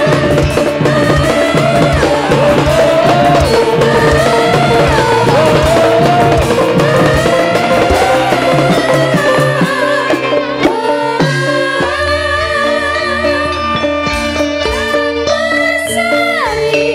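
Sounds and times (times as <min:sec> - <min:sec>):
female chorus singing: 0:00.0 - 0:13.8
drum strokes: 0:00.0 - 0:15.1
gamelan accompaniment: 0:00.0 - 0:16.9.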